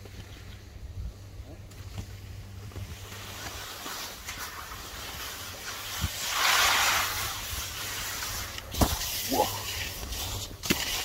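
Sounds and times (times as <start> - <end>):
skis scraping over snow: 1.5 - 11.0.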